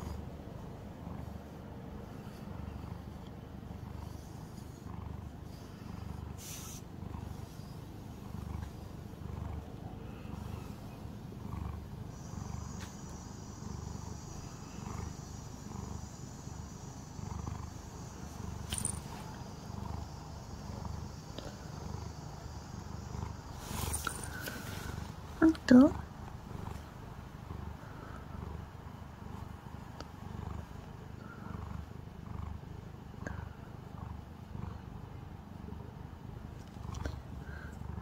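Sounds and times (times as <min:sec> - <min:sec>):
cat purring: 0:00.0 - 0:38.0.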